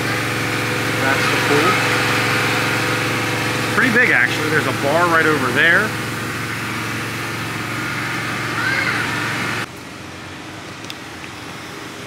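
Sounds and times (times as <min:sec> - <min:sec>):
machine hum with rushing noise: 0:00.0 - 0:12.0.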